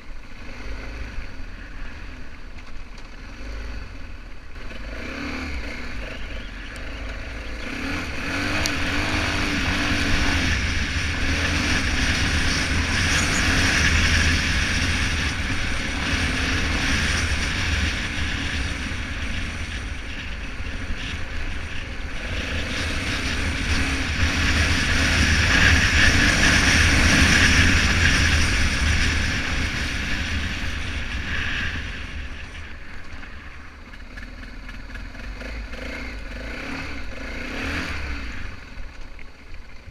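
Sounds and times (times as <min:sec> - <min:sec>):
motorcycle engine rumble: 0:00.0 - 0:39.9
road noise: 0:00.0 - 0:39.9.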